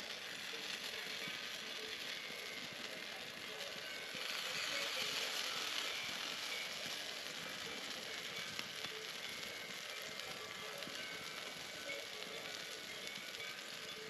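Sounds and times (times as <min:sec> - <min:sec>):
batter sizzling in waffle iron: 0:00.0 - 0:14.0
fire crackling: 0:00.0 - 0:14.0.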